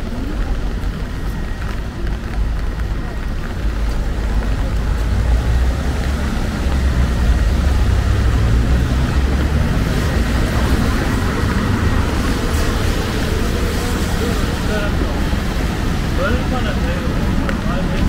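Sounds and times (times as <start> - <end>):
low traffic rumble: 0.0 - 18.0
vehicles driving on wet road: 0.0 - 18.0.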